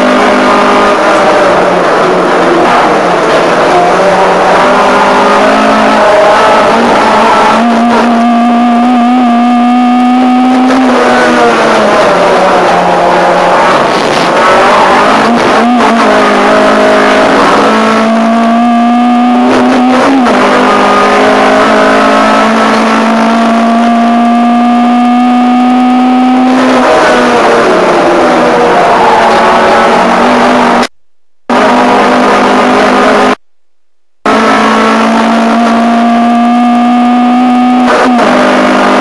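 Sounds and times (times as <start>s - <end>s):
race car engine at high revs: 0.0s - 39.0s.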